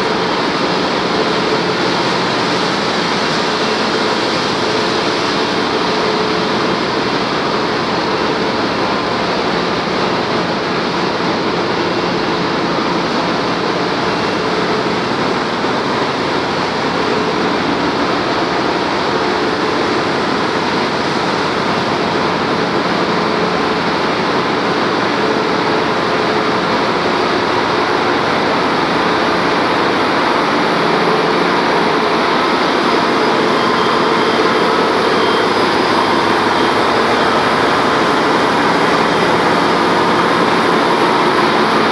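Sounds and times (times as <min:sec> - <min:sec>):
engine-room machinery din: 0:00.0 - 0:41.9.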